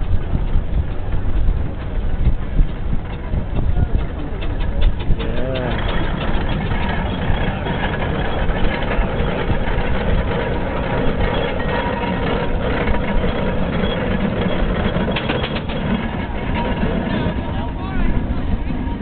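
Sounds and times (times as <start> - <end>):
steam engines rumbling: 0.0 - 19.0.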